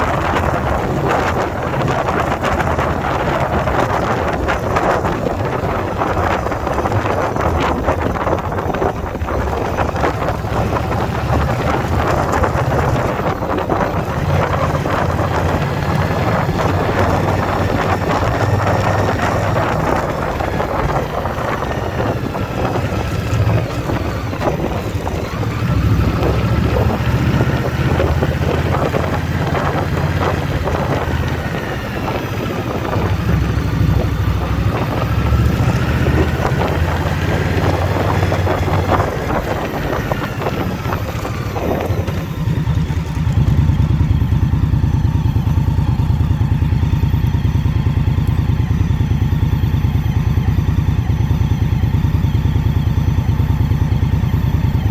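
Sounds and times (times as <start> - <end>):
motorcycle engine rumbling: 0.0 - 54.9
wind buffeting microphone: 0.0 - 54.9.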